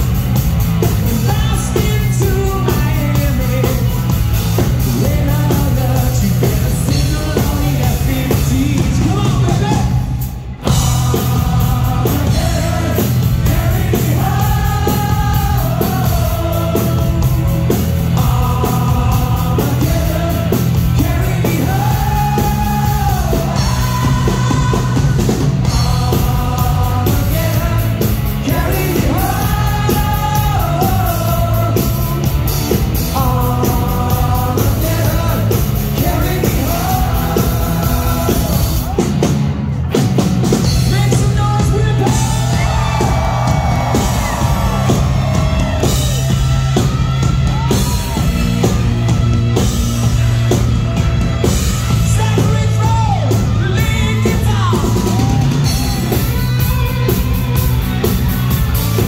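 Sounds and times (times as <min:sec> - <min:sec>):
bass guitar: 0:00.0 - 0:59.0
drum kit: 0:00.0 - 0:59.0.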